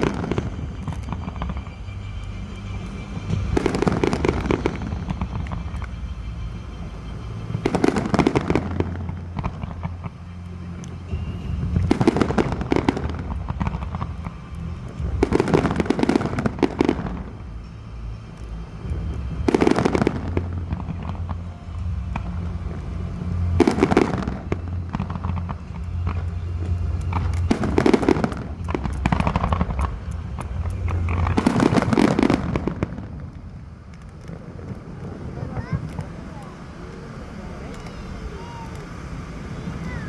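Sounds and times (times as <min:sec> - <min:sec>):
fireworks bursting and crackling: 0:00.0 - 0:40.0
steady low rumble: 0:00.0 - 0:40.0.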